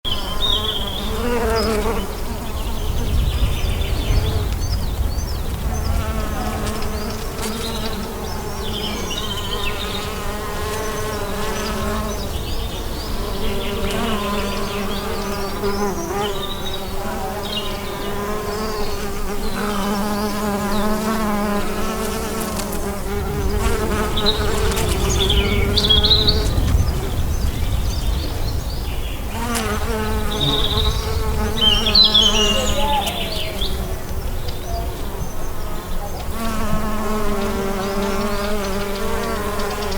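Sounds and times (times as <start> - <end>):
birds chirping: 0.0 - 39.9
bees buzzing: 0.1 - 39.9.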